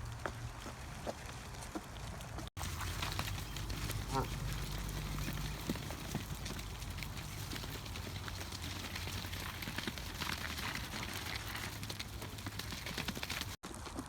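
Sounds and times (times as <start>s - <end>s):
low hum of outdoor noise: 0.0s - 13.6s
bills clicking and rustling on ground: 0.4s - 14.0s.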